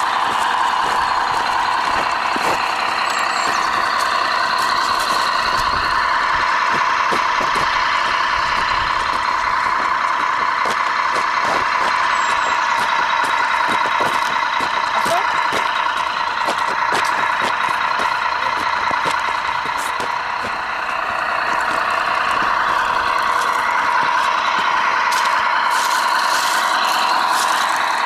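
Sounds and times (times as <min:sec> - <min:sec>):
toy truck motor running: 0:00.0 - 0:28.0
tyres crunching on dirt: 0:00.0 - 0:28.0.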